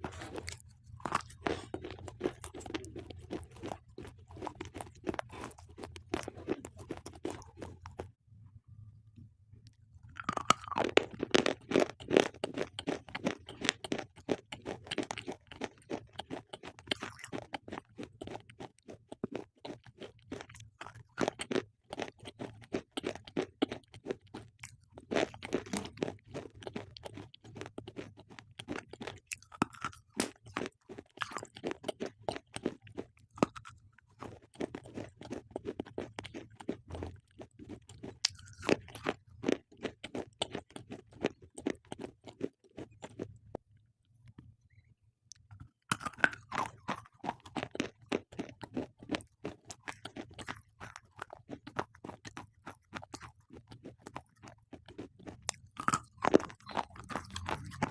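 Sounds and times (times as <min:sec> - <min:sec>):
slate pencils being chewed: 0:00.0 - 0:08.1, 0:09.7 - 0:43.6, 0:45.3 - 0:57.9.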